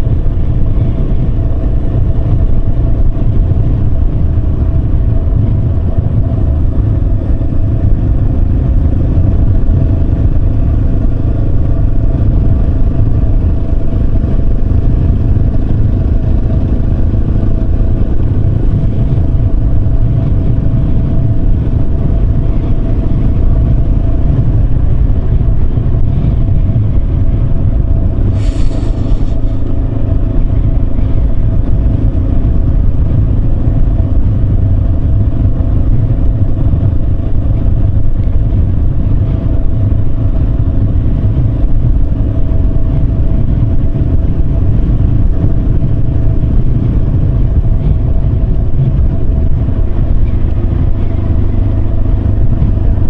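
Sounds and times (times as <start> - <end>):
heavy low rumble: 0.0 - 53.0
motorcycle engine running: 0.0 - 53.0.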